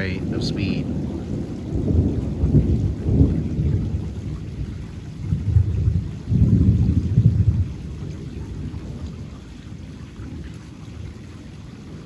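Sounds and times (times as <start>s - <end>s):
thunder rumbling: 0.0s - 11.2s.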